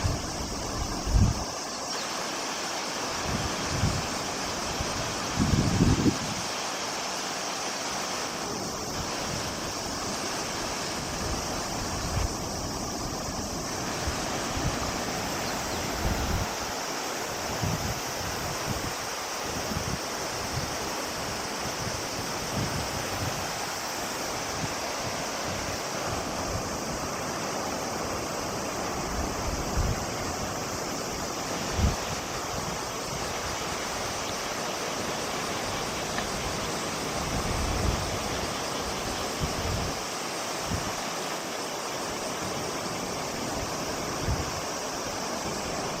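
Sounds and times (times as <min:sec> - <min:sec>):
river rushing: 0:00.0 - 0:46.0.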